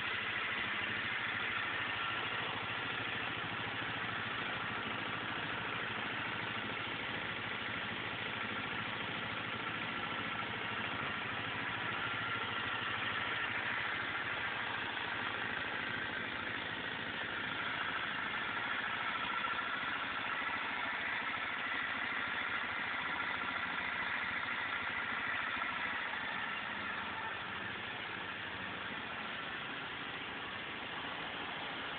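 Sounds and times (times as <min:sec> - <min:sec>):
scooter engine idling: 0:00.0 - 0:31.9.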